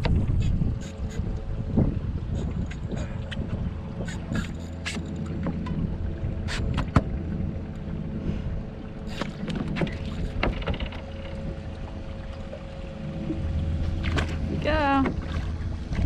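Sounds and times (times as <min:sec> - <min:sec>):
wind on microphone: 0:00.0 - 0:12.3, 0:13.0 - 0:16.0
small boat motor humming: 0:00.0 - 0:16.0.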